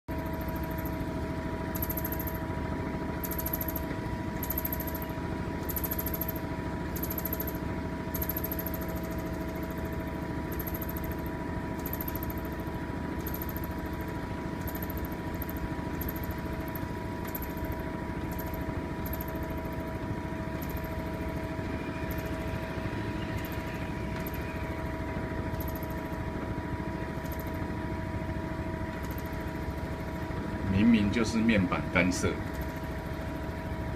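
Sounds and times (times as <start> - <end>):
constant hum: 0.1 - 33.9
washing machine rattling buzz: 0.1 - 33.9.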